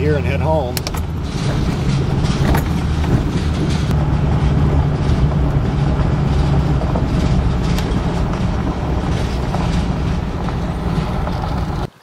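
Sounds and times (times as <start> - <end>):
gravel striking truck: 0.0 - 12.0
truck engine and tyre rumble: 0.0 - 12.0.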